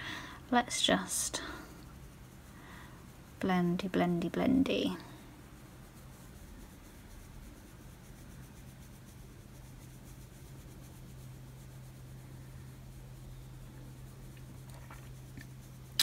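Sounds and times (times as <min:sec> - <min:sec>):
steady low hum: 0:00.0 - 0:16.0
brush rubbing on skin: 0:00.4 - 0:16.0.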